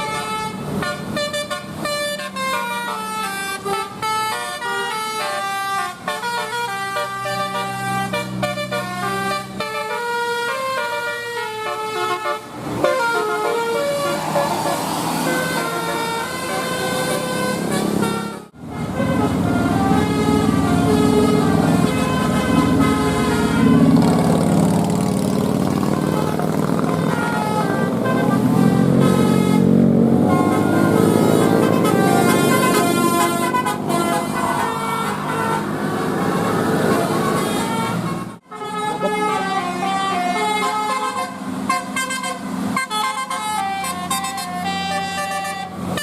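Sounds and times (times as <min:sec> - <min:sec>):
low bus engine rumble: 0:00.0 - 0:46.0
musical bus horns: 0:00.0 - 0:46.0.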